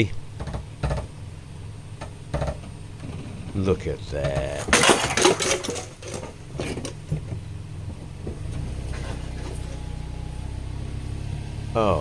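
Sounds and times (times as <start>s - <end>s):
low engine hum: 0.0s - 4.8s, 5.7s - 12.0s
knocks and clunks: 0.0s - 9.9s.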